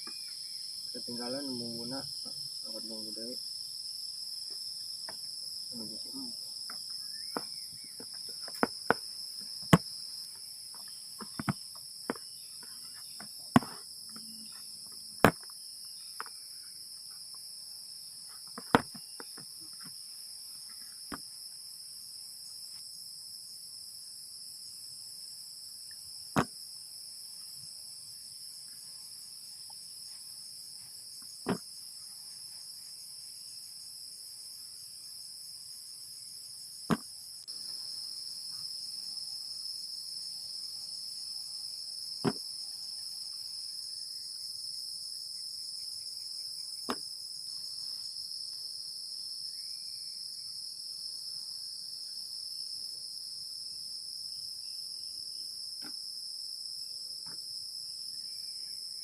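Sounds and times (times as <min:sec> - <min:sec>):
high insect chorus: 0:00.0 - 0:59.0.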